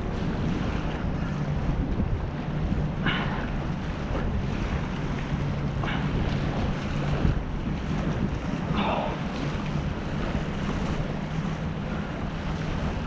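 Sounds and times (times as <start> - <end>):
steady low hum: 0.0 - 13.0
wind buffeting microphone: 0.0 - 13.0.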